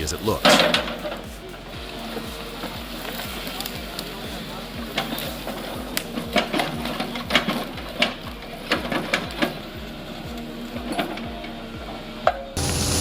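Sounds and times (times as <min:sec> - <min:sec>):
rhythmic mechanical knocking: 0:00.0 - 0:13.0.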